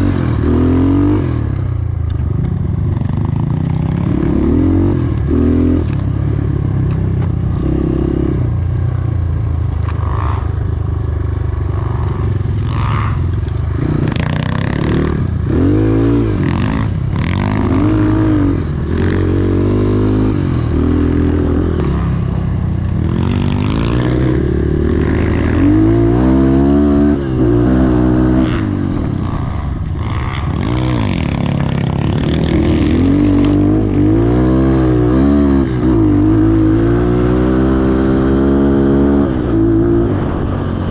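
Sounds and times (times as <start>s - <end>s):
motorcycle engine revving: 0.0s - 40.9s
motorcycle rattling: 0.0s - 40.9s.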